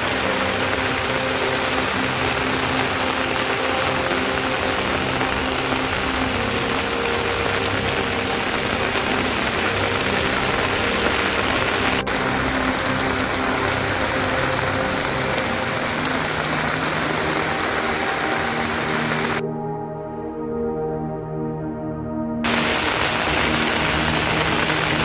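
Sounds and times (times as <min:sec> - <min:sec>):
steady rain falling: 0:00.0 - 0:19.4, 0:22.5 - 0:25.0.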